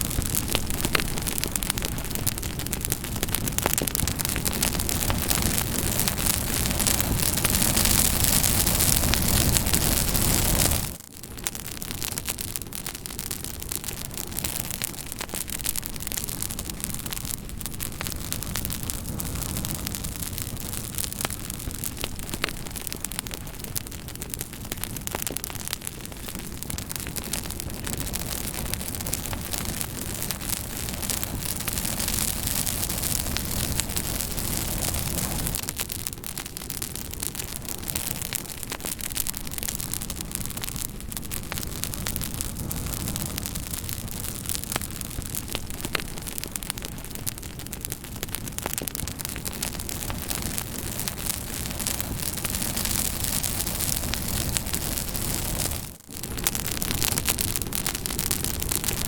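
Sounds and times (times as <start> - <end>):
fire snapping and popping: 0.0 - 59.0
hiss of burning wood: 0.0 - 59.0.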